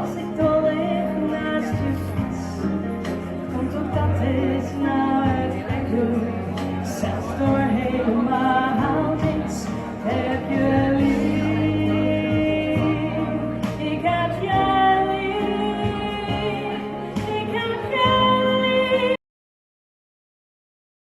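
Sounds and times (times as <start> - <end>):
song with sung melody: 0.0 - 19.2.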